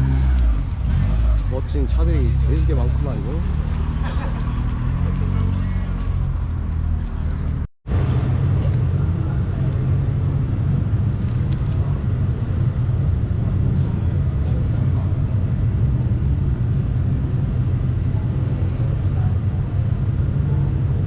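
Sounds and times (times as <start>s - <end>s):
car engines idling: 0.0s - 21.0s.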